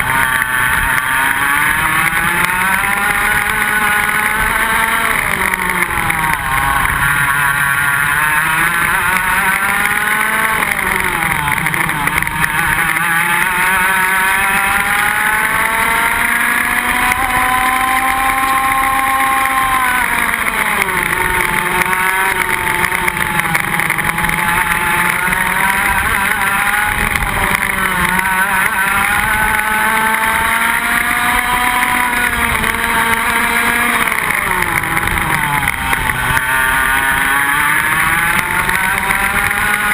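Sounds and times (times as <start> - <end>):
kart engines racing: 0.0 - 39.9.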